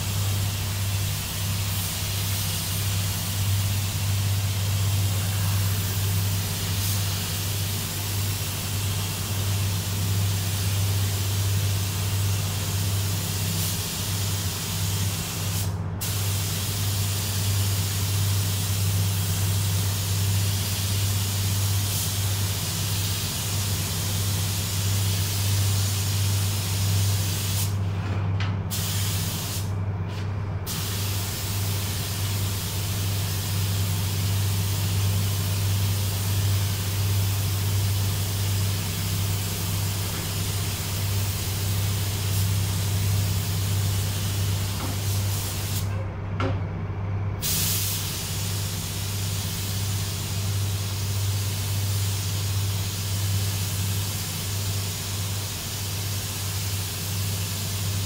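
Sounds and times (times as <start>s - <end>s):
paint spray gun hissing: 0.0s - 27.8s, 28.7s - 29.7s, 30.7s - 45.9s, 47.4s - 58.0s
steady low hum: 0.0s - 55.6s.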